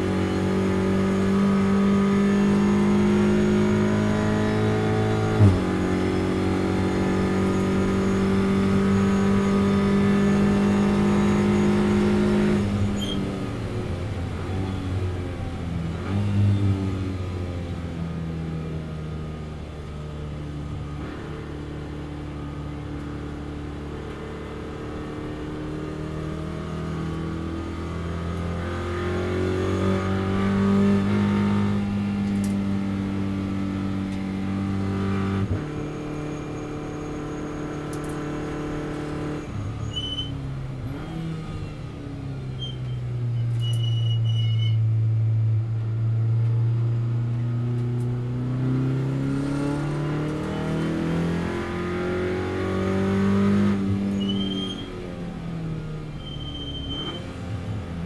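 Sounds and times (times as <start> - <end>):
race car engine at high revs: 0.0 - 42.5, 45.4 - 58.0.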